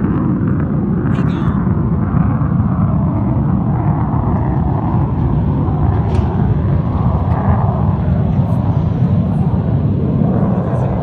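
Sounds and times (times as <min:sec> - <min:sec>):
jet aircraft engines roaring: 0:00.0 - 0:11.0.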